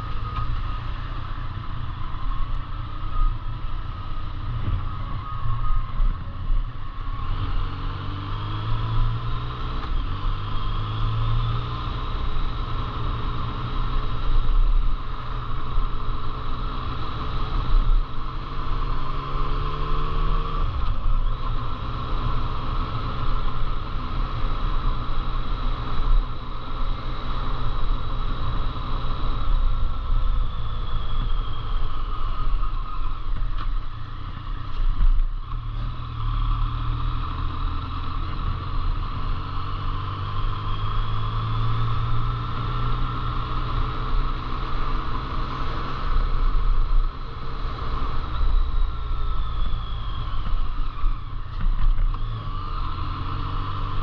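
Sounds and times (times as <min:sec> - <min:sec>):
road noise: 0:00.0 - 0:54.0
vehicle engine accelerating: 0:00.0 - 0:54.0.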